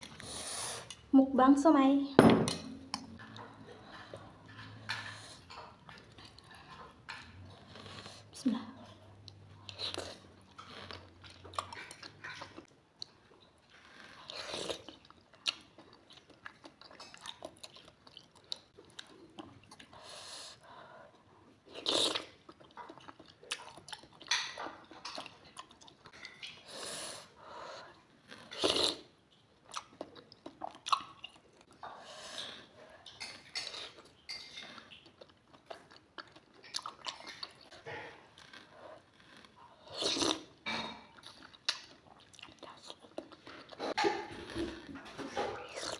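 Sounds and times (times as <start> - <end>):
chewing and biting food: 2.9 - 45.9.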